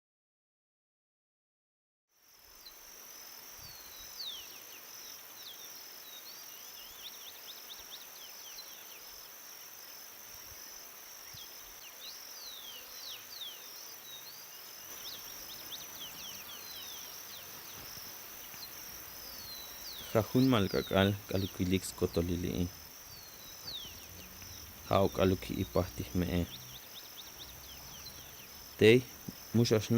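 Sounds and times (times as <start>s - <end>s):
insects trilling: 2.2s - 29.9s.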